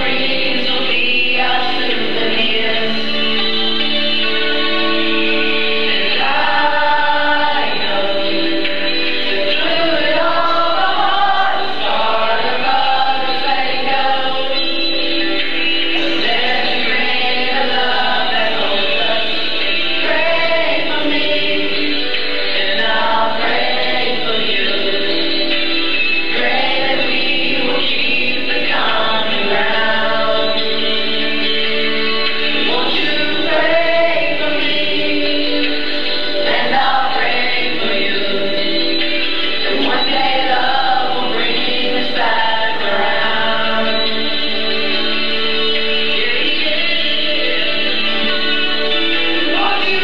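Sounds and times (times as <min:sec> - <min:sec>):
choir singing held chords: 0:00.0 - 0:50.0.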